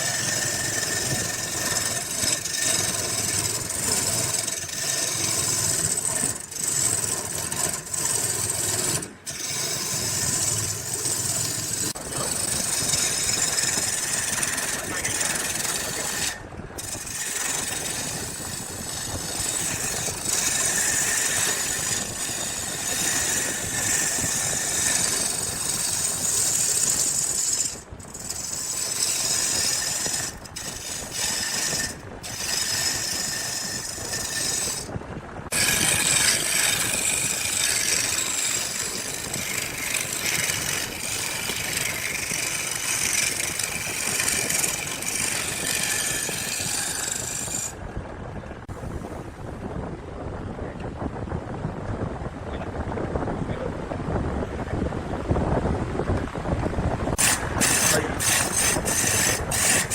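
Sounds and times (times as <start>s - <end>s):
power tool sanding wood: 0.0s - 34.9s, 35.5s - 47.8s, 57.2s - 59.9s.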